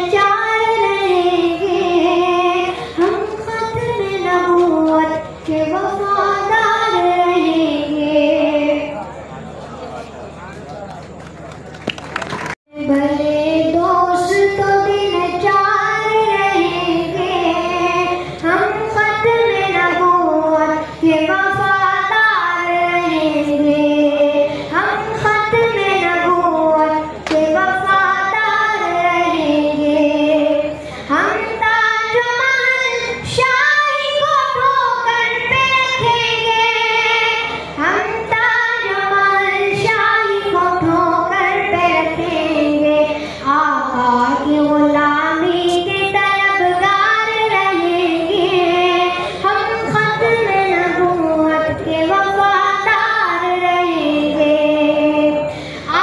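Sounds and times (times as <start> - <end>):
boy singing into a microphone: 0.0 - 9.1, 12.7 - 56.0.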